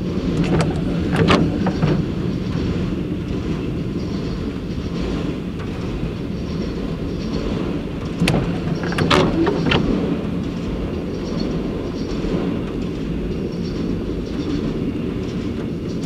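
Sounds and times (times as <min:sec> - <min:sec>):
freight train cars rumbling: 0:00.0 - 0:16.0.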